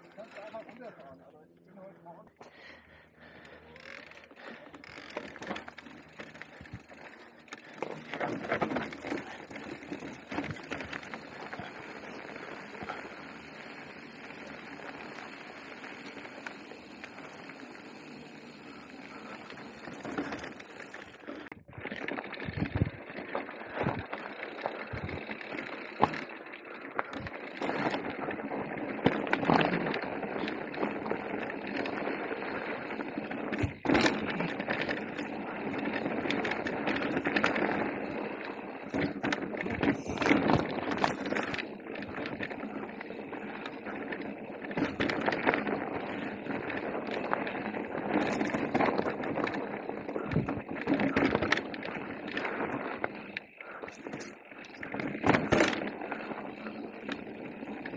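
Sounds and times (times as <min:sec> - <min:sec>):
bike knocking and rattling: 0:00.0 - 0:01.2, 0:02.4 - 0:57.9.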